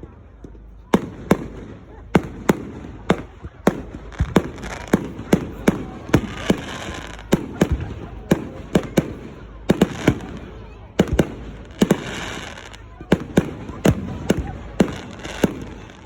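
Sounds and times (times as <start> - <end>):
fireworks banging: 0.0 - 16.0
fireworks crackling: 0.0 - 16.0.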